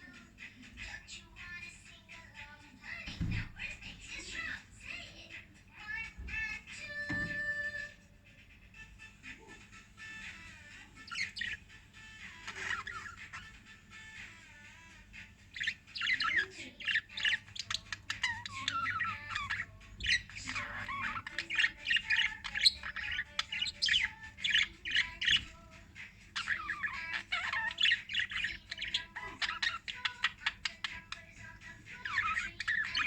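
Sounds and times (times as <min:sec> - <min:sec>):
lovebirds chattering and squawking: 0:00.0 - 0:08.0, 0:08.7 - 0:33.0.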